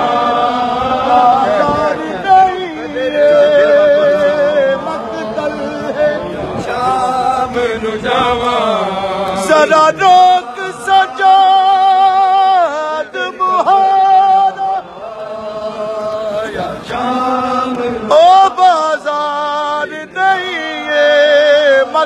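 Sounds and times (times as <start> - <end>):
man singing a mourning lament: 0.0 - 22.0.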